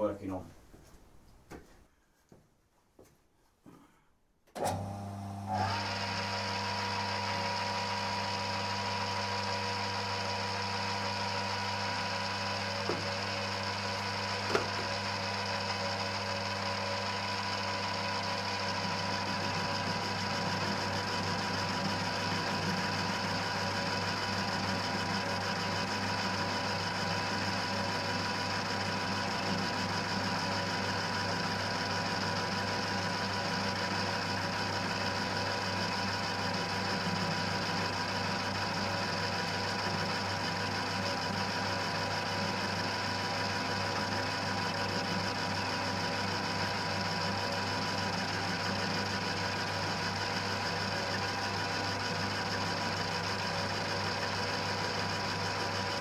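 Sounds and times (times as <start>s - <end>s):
lathe running with hum and whine: 4.6s - 56.0s.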